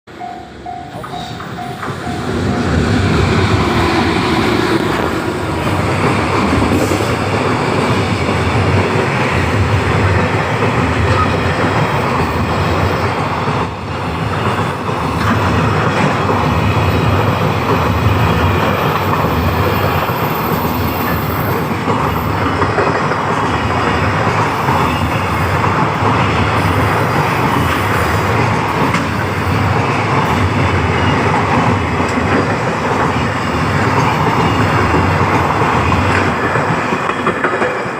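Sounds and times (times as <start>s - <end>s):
freight train wheels clattering: 0.2s - 37.9s.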